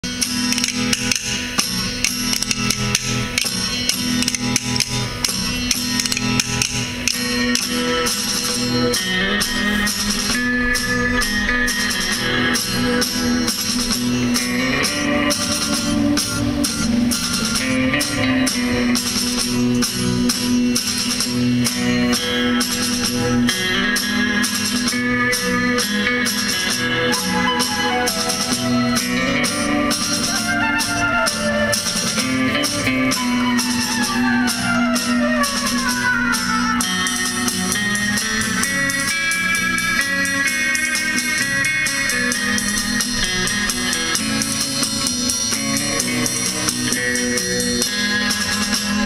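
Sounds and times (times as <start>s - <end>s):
sharp percussion hits: 0.0s - 34.8s, 35.5s - 49.0s
plucked guitar over percussion: 0.0s - 49.0s.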